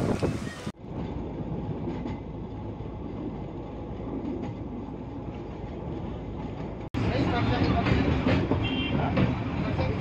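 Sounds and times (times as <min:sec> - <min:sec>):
faint rail clatter: 0:00.0 - 0:10.0
train carriage rumbling: 0:00.0 - 0:10.0.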